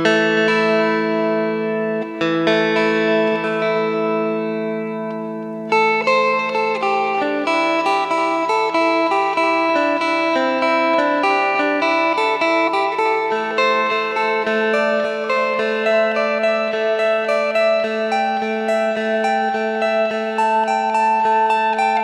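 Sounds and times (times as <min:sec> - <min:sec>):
electric lute plucked melody: 0:00.0 - 0:22.0.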